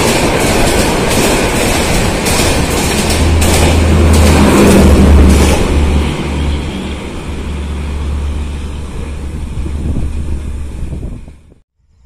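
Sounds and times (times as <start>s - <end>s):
train rushing past: 0.0s - 11.6s.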